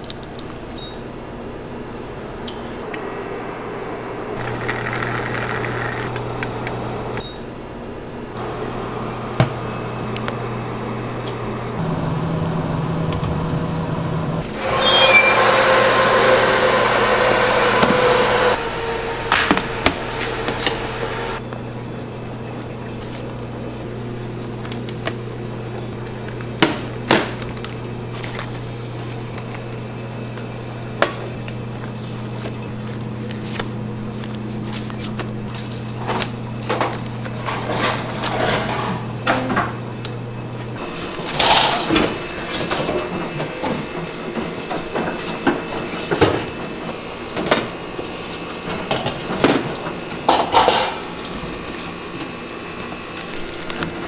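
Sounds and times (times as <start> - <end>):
appliance hum: 0.0 - 54.0
oven rushing noise: 8.4 - 21.4, 22.2 - 54.0.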